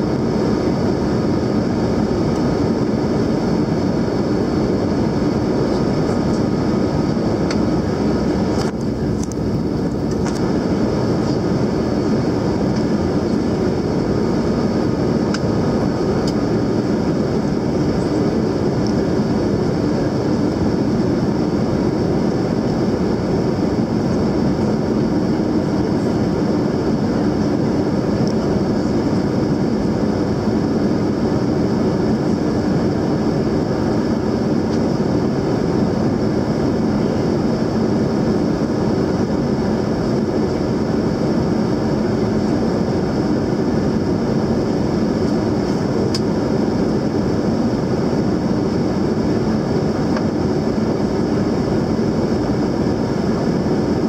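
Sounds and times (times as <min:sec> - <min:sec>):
aircraft engine and airflow rush: 0:00.0 - 0:54.0
faint steady hums: 0:00.0 - 0:54.0.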